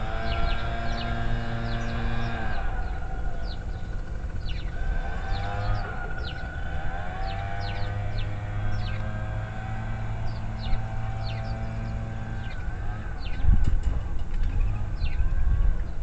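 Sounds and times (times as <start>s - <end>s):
pitched drone sliding: 0.0s - 13.6s
low steady rumble: 0.0s - 16.0s
small birds chirping: 0.0s - 16.0s.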